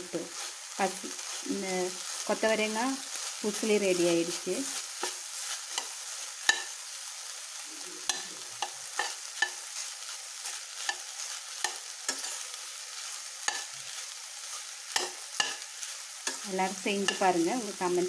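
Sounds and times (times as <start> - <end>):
hot pan sizzling: 0.0 - 18.0.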